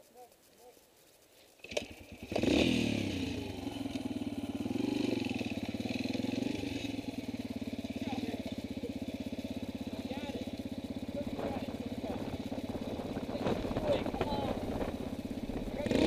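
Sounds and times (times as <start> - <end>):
small engine starting and idling: 1.0 - 16.0.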